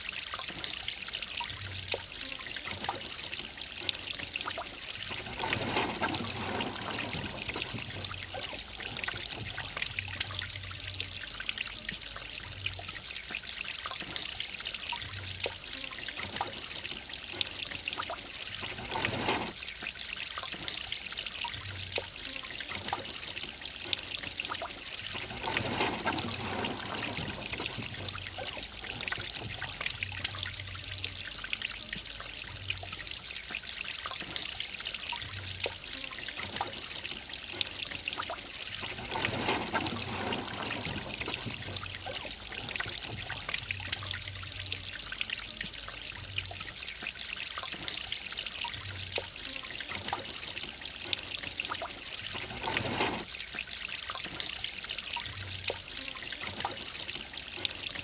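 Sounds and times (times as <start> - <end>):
water splashing: 0.0 - 58.0
waterfall pouring into pond: 0.0 - 58.0.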